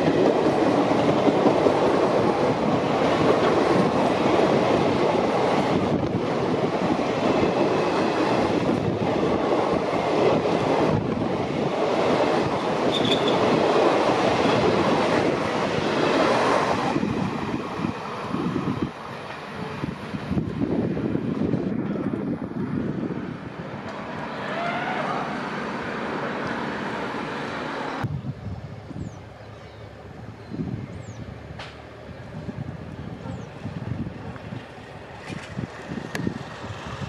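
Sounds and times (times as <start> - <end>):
train wheels rattling on rails: 0.0 - 28.1, 31.5 - 37.0.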